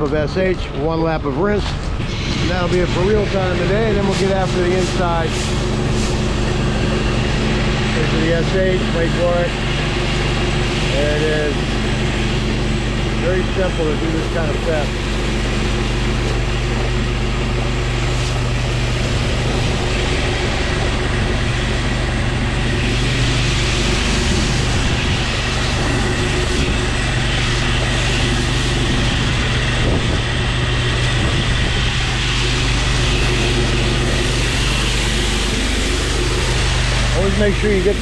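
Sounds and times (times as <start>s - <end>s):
pressure washer engine droning: 0.0s - 38.0s.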